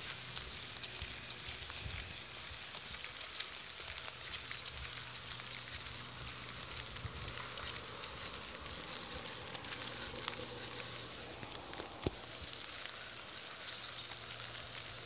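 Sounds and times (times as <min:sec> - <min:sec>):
rain falling: 0:00.0 - 0:15.0
raindrops ticking: 0:00.0 - 0:15.0.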